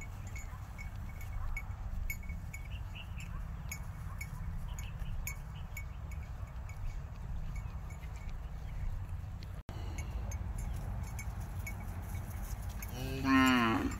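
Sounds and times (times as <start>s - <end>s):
cattle bells clinking: 0.0s - 13.9s.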